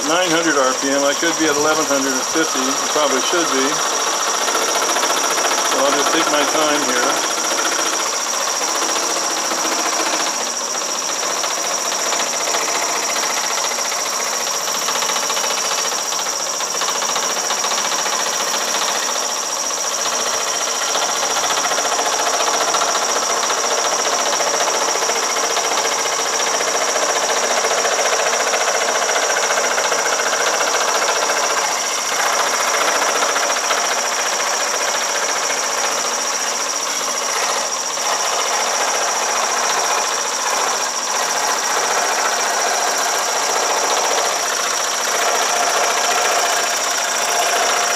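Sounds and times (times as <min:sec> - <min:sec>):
jigsaw cutting wood: 0:00.0 - 0:47.9.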